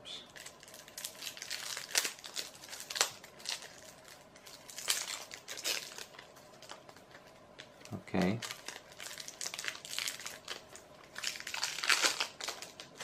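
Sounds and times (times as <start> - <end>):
cellophane wrap crinkling: 0.2 - 13.0.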